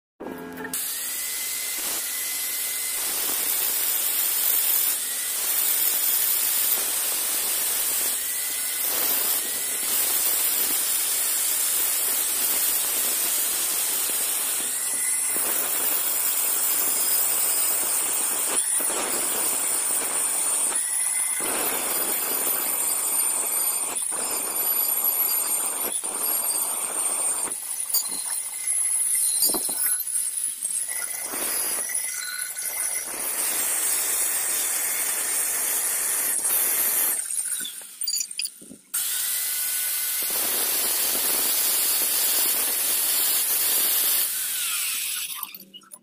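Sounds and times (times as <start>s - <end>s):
angle grinder cutting steel: 0.6s - 45.8s.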